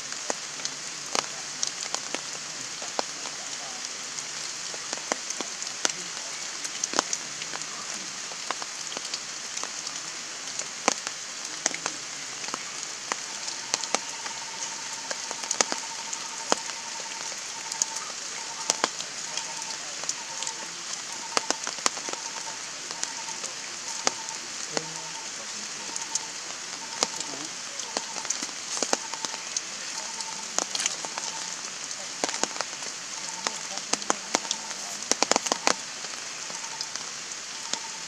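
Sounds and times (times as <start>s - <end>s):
heavy rain hissing: 0.0s - 38.0s.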